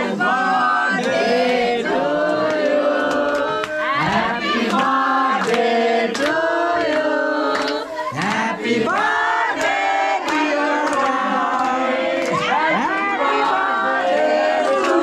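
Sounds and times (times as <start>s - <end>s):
group singing: 0.0s - 15.0s
hand clapping: 1.0s - 1.7s, 2.3s - 15.0s.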